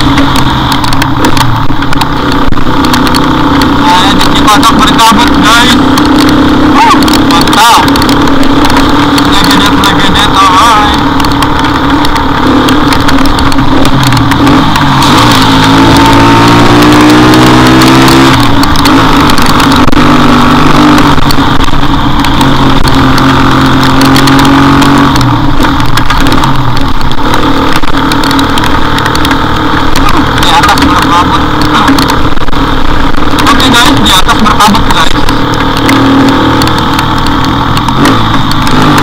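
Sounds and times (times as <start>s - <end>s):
motorcycle engine: 0.0s - 39.0s
wind and road noise: 0.0s - 39.0s.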